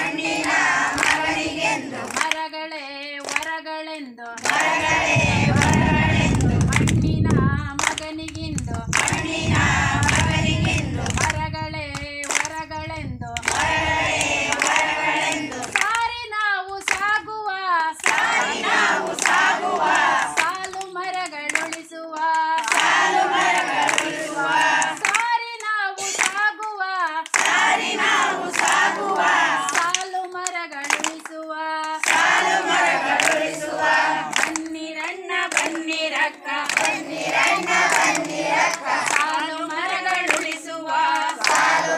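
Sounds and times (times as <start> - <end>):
hand clapping: 0.0 - 2.5, 3.2 - 3.6, 4.2 - 12.6, 13.3 - 17.2, 17.8 - 41.9
group of voices singing: 0.0 - 41.9.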